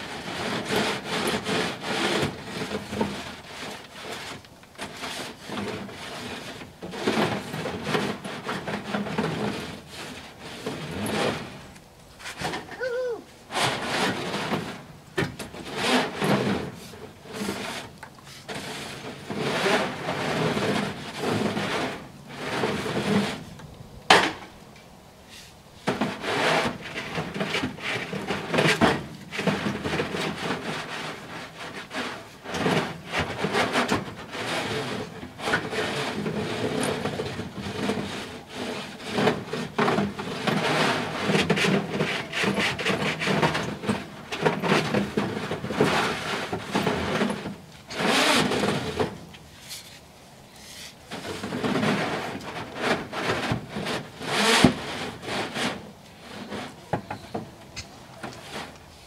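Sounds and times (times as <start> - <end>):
tool scraping wooden floor: 0.0 - 12.8, 13.5 - 24.6, 25.2 - 59.0.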